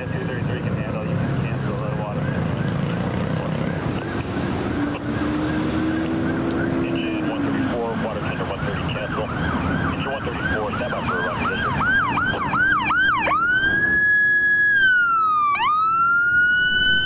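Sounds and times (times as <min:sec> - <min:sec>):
ambulance siren yelping: 0:00.0 - 0:17.0
siren wailing: 0:00.0 - 0:17.0.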